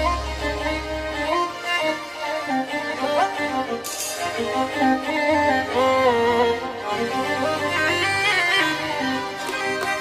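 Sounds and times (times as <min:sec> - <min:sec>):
bowed string dance music: 0:00.0 - 0:10.0.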